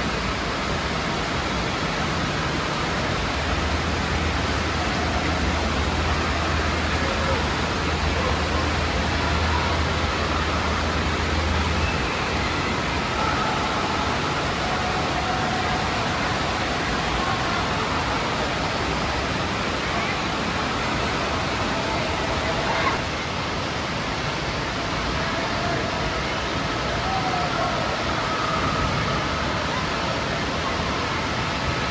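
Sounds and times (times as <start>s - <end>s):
distant babble of voices: 0.0s - 31.9s
running and splashing water: 0.0s - 31.9s.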